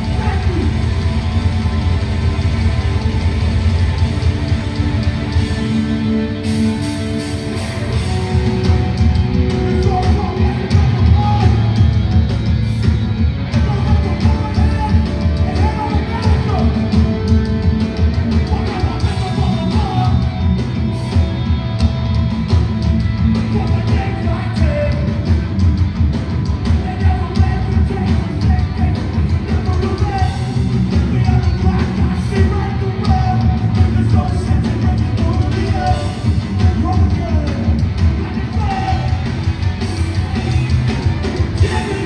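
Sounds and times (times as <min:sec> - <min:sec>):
drums: 0:00.0 - 0:42.0
electric guitars: 0:00.0 - 0:42.0.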